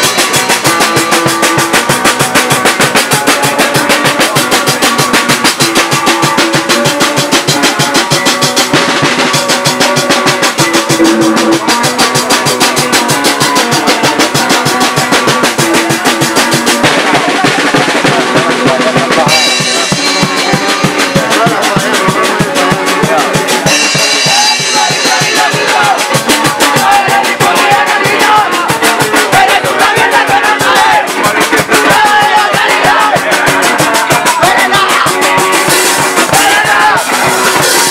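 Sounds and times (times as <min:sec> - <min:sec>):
punk band playing: 0:00.0 - 0:37.9
rapid drum beat: 0:00.0 - 0:37.9.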